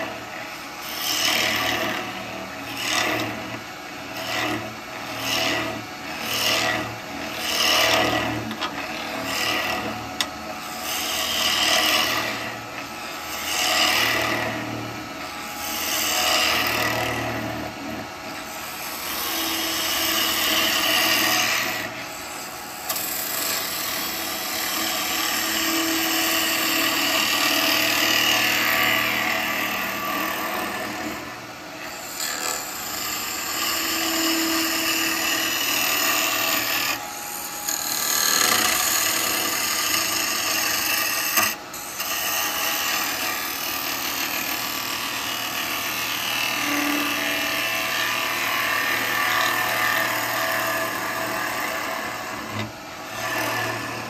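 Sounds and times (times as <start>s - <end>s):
turning tool cutting wood: 0.0s - 54.0s
wood lathe spinning: 0.0s - 54.0s.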